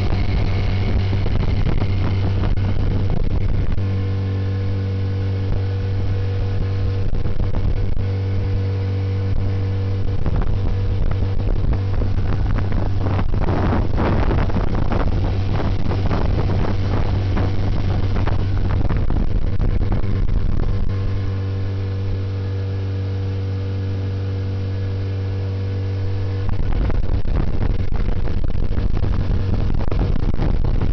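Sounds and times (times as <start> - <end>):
outboard motor humming: 0.0 - 30.9
rush of wind and water: 0.0 - 30.9.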